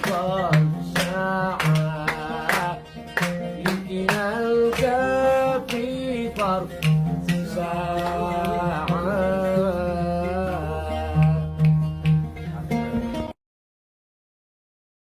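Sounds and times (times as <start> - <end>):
plucked string instrument: 0.0 - 13.4.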